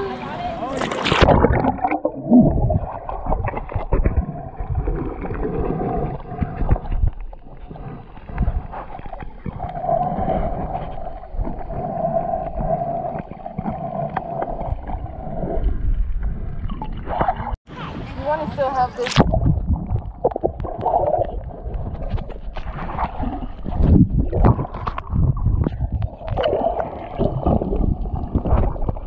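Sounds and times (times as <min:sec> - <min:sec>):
water gurgling underwater: 0:00.7 - 0:17.6, 0:19.0 - 0:29.0.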